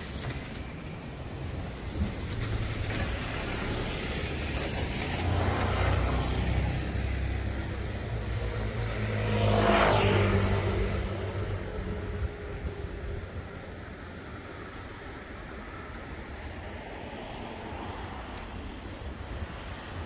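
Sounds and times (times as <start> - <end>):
cars driving past on wet street: 0.0 - 20.0.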